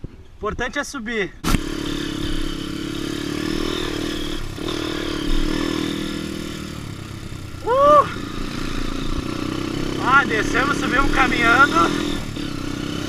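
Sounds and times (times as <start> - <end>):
motorcycle engine running: 1.4 - 13.0.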